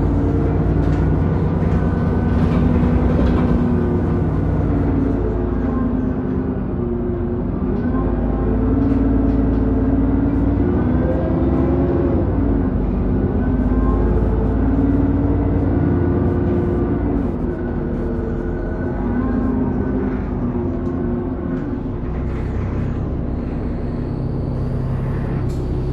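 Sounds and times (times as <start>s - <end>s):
bus engine rumble: 0.0s - 25.9s
high whine of accelerating bus: 0.0s - 25.9s.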